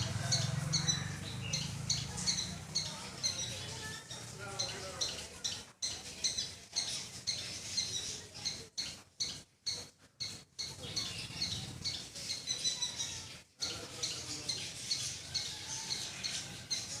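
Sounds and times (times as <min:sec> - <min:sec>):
squirrel chirping: 0:00.0 - 0:17.0.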